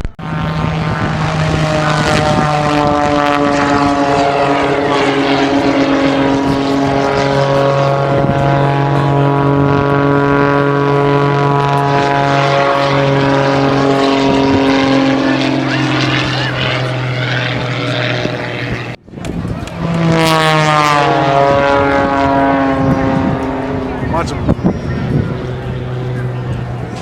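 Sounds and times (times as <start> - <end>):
propeller airplane engine droning: 0.0 - 27.0.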